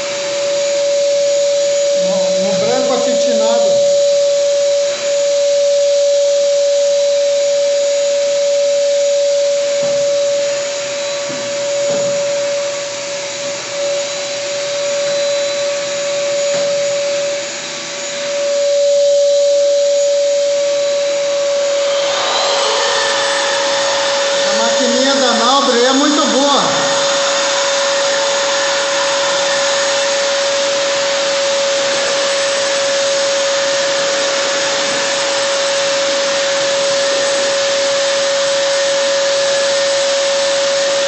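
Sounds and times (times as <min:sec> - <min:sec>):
sander scratching on wall: 0:00.0 - 0:41.0
shop vacuum motor whine: 0:00.0 - 0:41.0.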